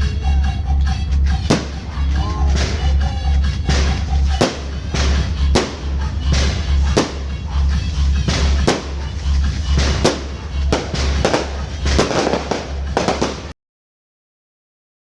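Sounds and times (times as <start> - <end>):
music with heavy bass: 0.0 - 13.5
fireworks bangs and crackles: 1.3 - 13.6.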